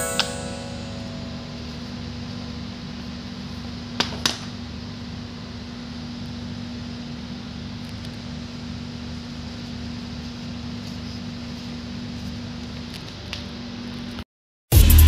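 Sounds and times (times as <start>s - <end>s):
mechanical hum with hiss: 0.0s - 14.2s.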